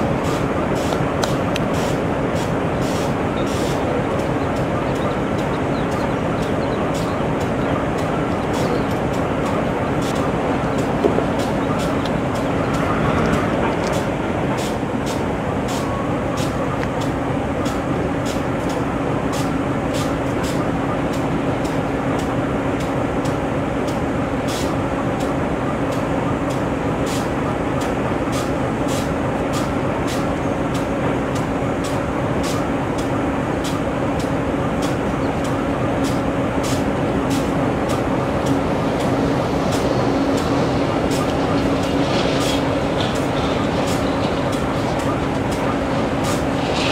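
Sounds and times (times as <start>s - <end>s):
diesel locomotive engine idling: 0.0s - 46.9s.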